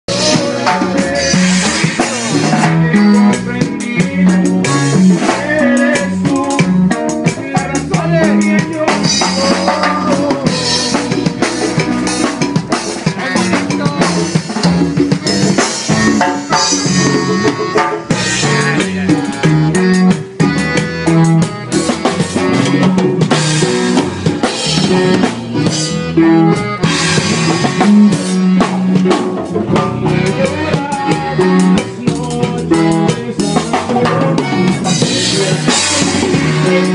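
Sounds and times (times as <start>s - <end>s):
live band playing: 0.0s - 36.9s
accordion: 0.1s - 36.9s
drum kit beat: 0.1s - 36.9s.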